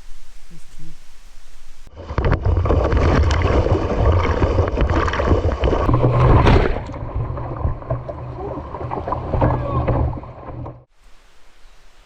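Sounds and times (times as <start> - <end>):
rushing water: 1.7 - 12.0.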